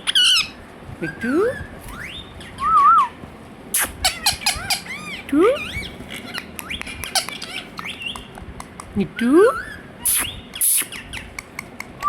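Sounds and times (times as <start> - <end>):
parakeet whistling and chirping: 0.0 - 3.2, 3.8 - 8.4, 9.4 - 11.4.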